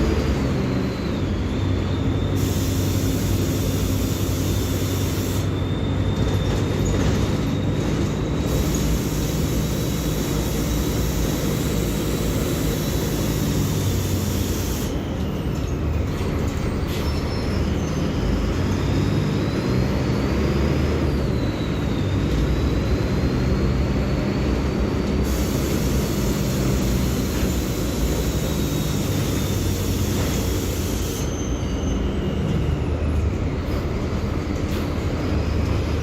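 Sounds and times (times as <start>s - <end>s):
bus diesel engine droning: 0.0s - 36.0s.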